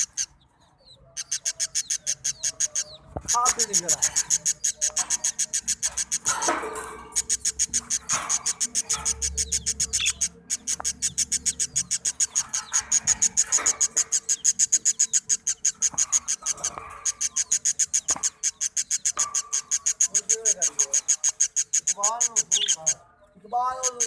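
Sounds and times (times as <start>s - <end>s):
baby birds chirping: 0.0s - 24.0s.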